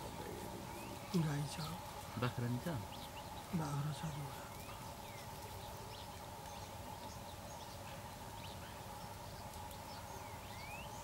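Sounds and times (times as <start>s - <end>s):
steady background hum: 0.0s - 11.0s
bird chirps and calls: 0.6s - 11.0s.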